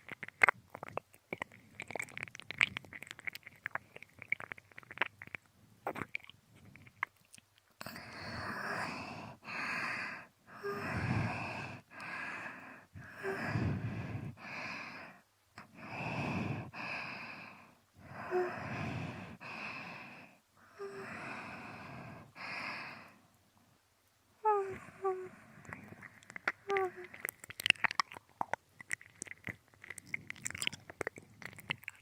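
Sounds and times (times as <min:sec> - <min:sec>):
close-up mouth and breath sounds: 0:00.0 - 0:23.4, 0:24.4 - 0:32.0.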